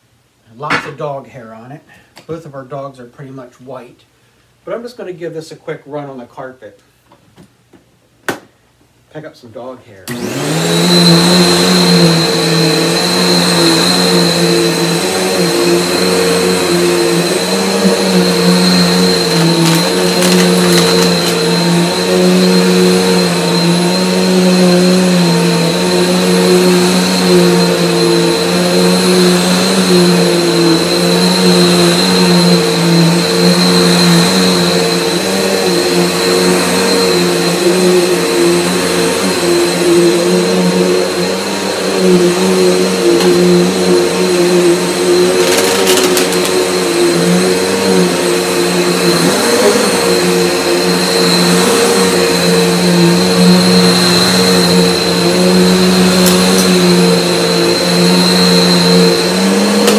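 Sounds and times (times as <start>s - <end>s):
vacuum cleaner on carpet: 10.1s - 59.9s.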